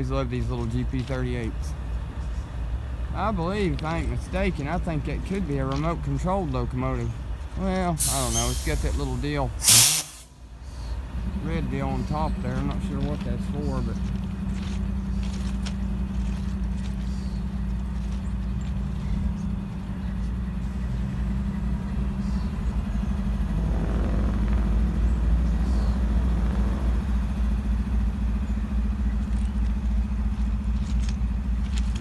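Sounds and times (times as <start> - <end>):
diesel locomotive engine throbbing: 0.0 - 32.0.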